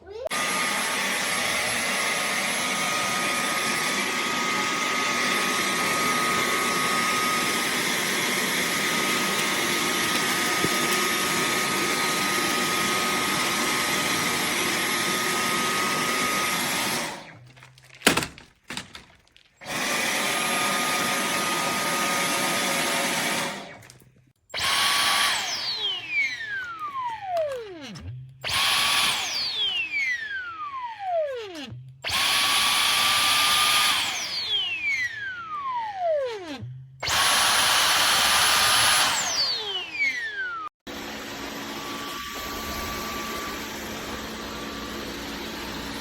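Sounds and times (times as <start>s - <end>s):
vacuum cleaner running: 0.2s - 17.4s, 19.6s - 24.0s, 24.6s - 46.0s.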